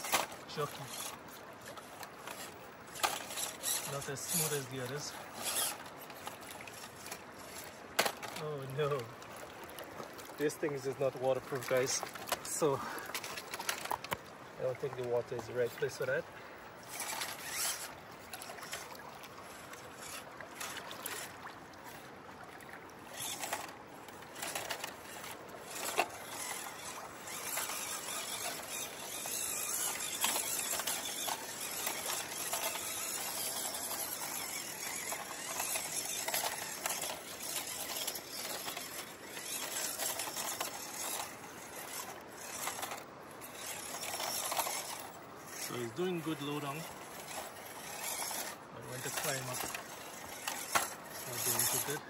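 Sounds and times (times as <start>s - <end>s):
toy truck electric motor whine: 0.0s - 8.4s, 16.8s - 21.4s, 23.0s - 52.0s.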